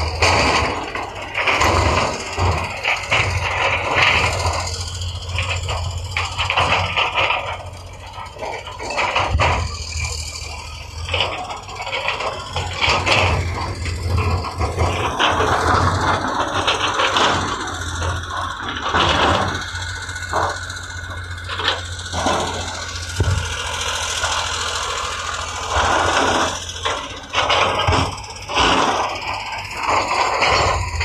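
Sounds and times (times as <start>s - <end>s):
diesel machinery engine hum: 0.0s - 31.0s
metallic knocks and clatter: 0.0s - 31.0s.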